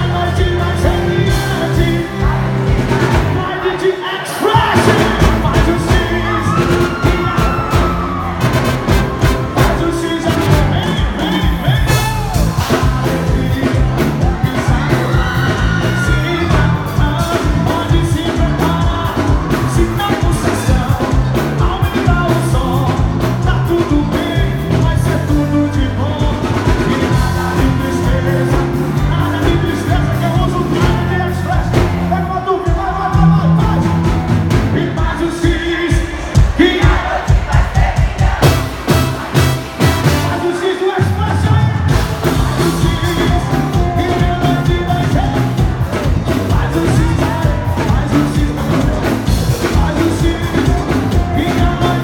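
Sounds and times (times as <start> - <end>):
loud music with singer: 0.0 - 52.0.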